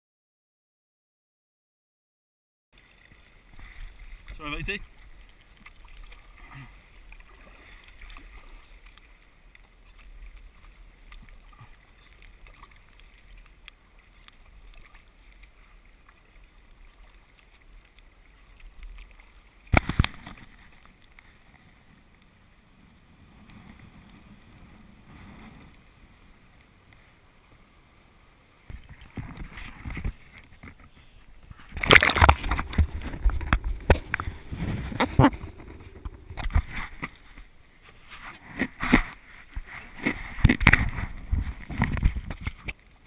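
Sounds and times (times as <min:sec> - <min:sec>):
paddle strokes: 0:02.8 - 0:43.0
water against hull: 0:02.8 - 0:43.0.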